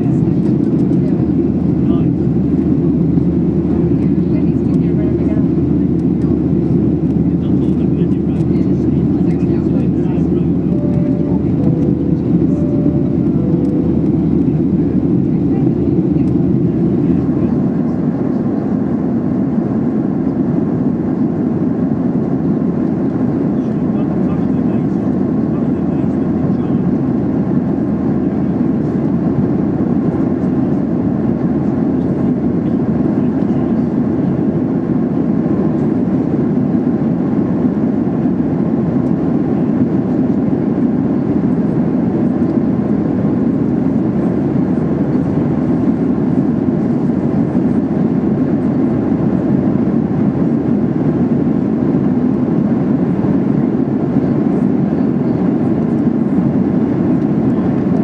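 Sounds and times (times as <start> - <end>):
airliner cabin engine drone: 0.0 - 58.0.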